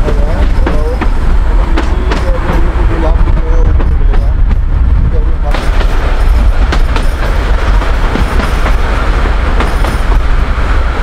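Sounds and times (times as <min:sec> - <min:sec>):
wheels clacking over rail joints: 0:00.0 - 0:04.7, 0:05.5 - 0:11.0
train rumbling: 0:00.0 - 0:11.0.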